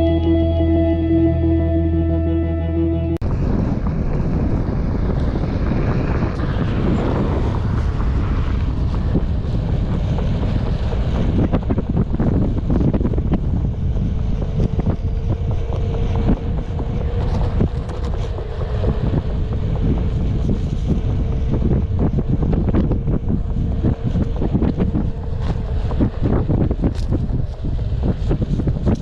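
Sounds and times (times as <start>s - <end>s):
wind buffeting microphone: 2.7s - 29.0s
faint hub motor hum: 3.2s - 29.0s.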